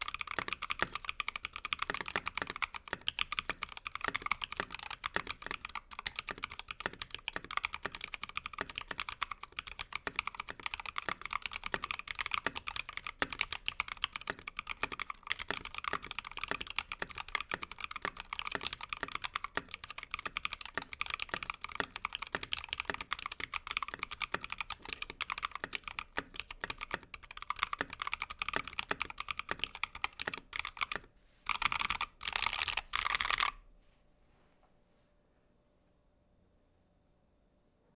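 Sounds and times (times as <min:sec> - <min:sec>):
mechanical keyboard typing: 0:00.0 - 0:33.6
rapid key mashing: 0:00.0 - 0:33.6.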